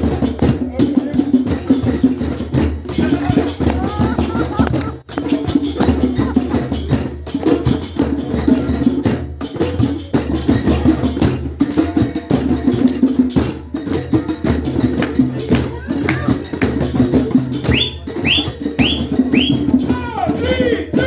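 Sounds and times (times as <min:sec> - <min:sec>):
djembe drums playing: 0:00.0 - 0:21.0.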